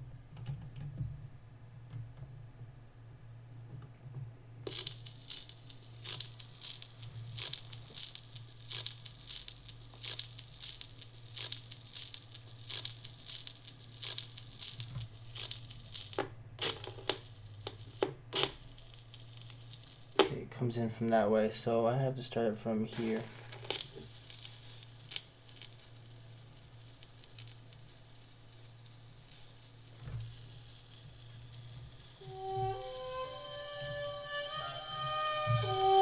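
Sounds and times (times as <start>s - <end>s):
turntable hum: 0.0s - 20.5s, 22.9s - 36.0s
stylus crackling on record: 4.2s - 21.3s, 22.4s - 36.0s.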